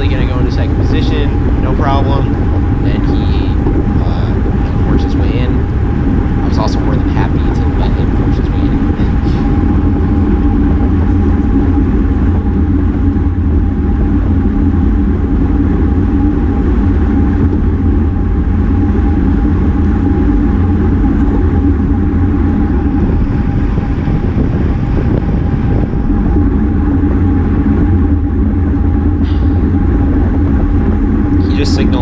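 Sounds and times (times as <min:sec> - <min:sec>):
thin whine: 0:00.0 - 0:32.0
wind rushing over microphone: 0:00.0 - 0:32.0.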